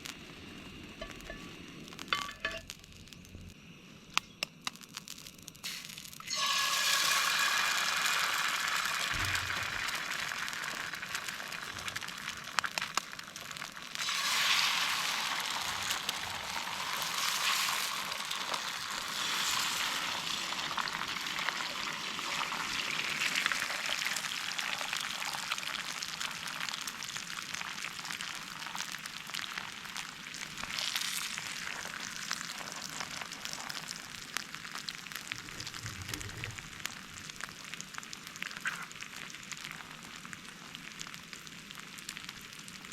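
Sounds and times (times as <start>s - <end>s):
food sizzling in a pan: 0.0s - 3.8s, 4.4s - 42.9s.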